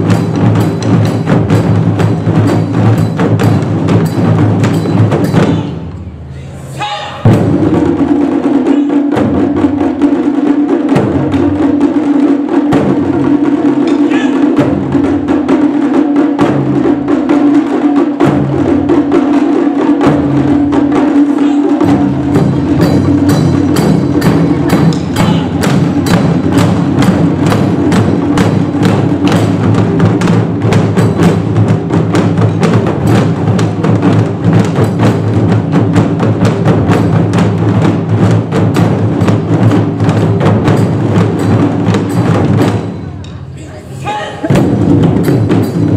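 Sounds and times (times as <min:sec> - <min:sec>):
deep drum beats: 0:00.0 - 0:45.9
taiko drum ensemble playing: 0:00.0 - 0:45.9.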